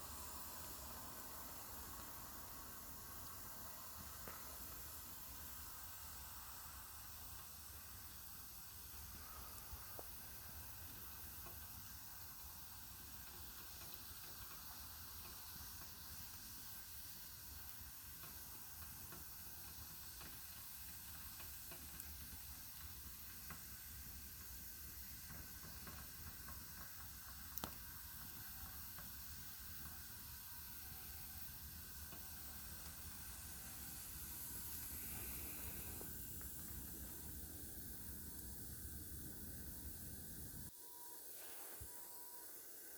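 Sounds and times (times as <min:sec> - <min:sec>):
campfire crackling: 0:00.0 - 0:40.7
faint steady hiss: 0:00.0 - 0:42.9.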